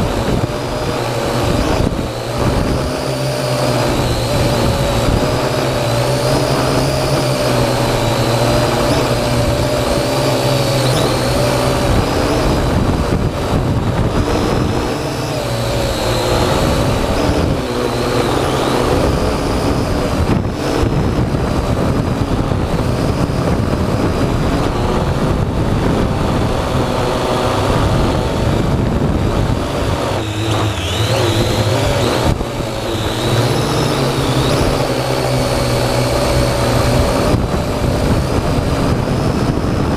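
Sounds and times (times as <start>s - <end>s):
drone propellers whirring: 0.0s - 39.9s
wind rumble: 0.0s - 39.9s.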